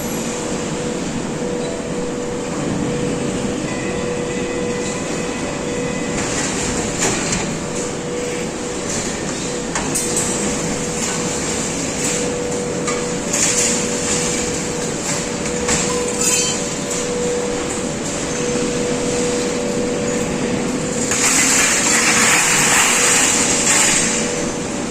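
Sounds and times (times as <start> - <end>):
machinery whining: 0.0 - 24.9.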